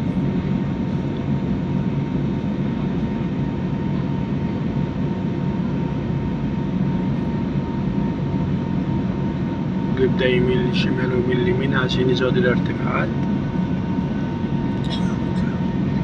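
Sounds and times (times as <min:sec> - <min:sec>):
airliner cabin engine roar: 0:00.0 - 0:16.0
faint steady whine: 0:00.0 - 0:16.0.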